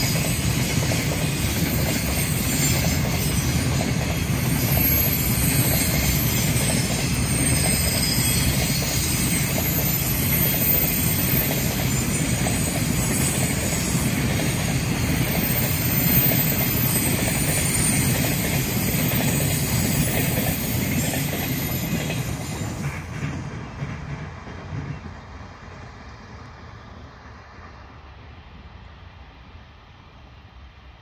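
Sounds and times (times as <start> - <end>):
train wheels rolling on rail: 0.0 - 31.0.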